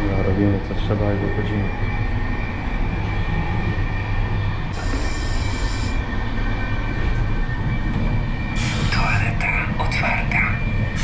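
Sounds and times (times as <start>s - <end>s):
high whine: 0.0s - 11.0s
train deep rumble: 0.0s - 11.0s.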